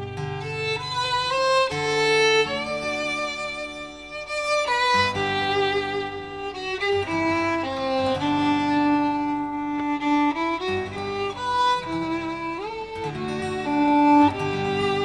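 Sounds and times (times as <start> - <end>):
bowed string melody: 0.0 - 15.0.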